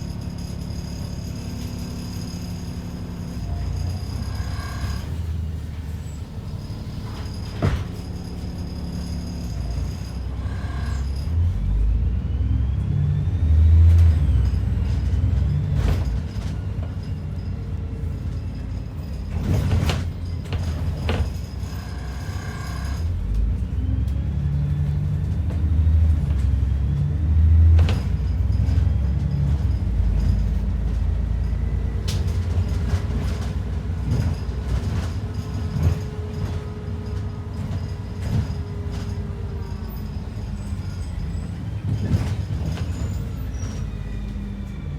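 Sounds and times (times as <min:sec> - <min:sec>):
knocks and rattles from bus body: 0:00.0 - 0:11.6, 0:13.7 - 0:44.8
bus engine rumble: 0:00.0 - 0:44.9.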